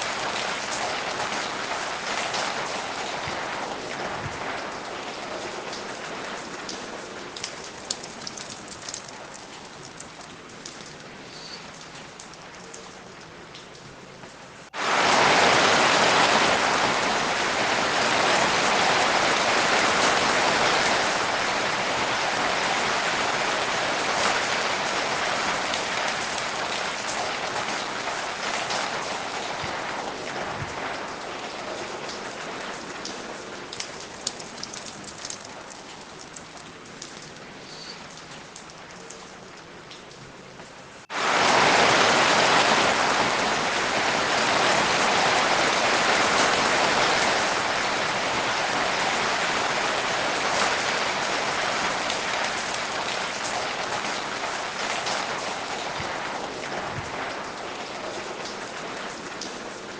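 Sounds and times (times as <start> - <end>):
individual raindrop hits: 0.0 - 59.9
rain falling: 0.0 - 59.9.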